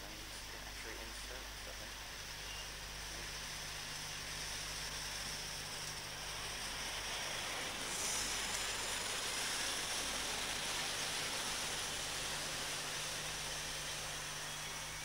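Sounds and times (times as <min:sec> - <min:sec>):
tape hiss: 0:00.0 - 0:15.0.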